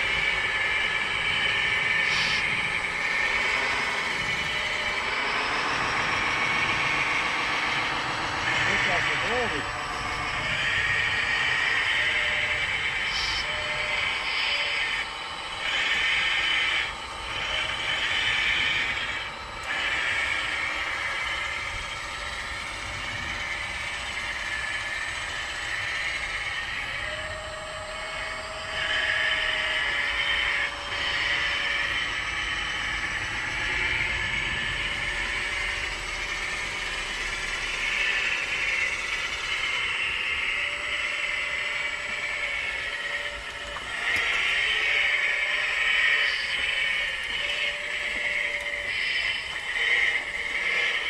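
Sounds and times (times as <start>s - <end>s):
small electric motors whining: 0.0s - 51.0s.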